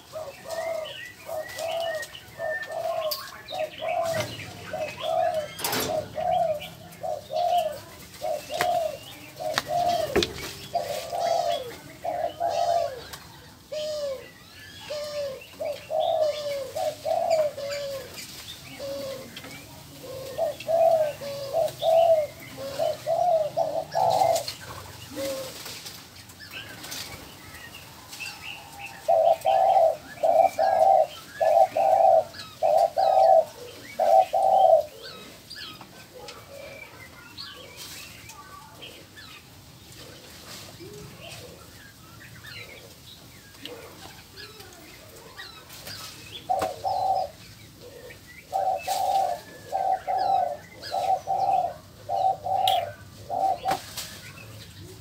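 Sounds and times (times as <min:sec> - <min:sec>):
dove cooing: 0:00.0 - 0:25.8, 0:28.5 - 0:37.8, 0:43.6 - 0:55.0
small birds chirping: 0:00.0 - 0:55.0.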